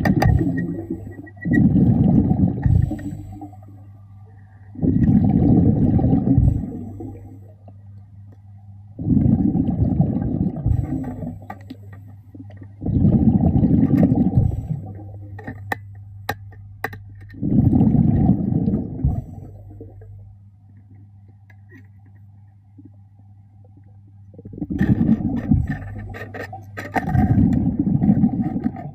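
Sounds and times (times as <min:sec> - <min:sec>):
regulator air bubbling underwater: 0:00.0 - 0:20.5, 0:22.7 - 0:28.9
steady low hum: 0:00.0 - 0:28.9.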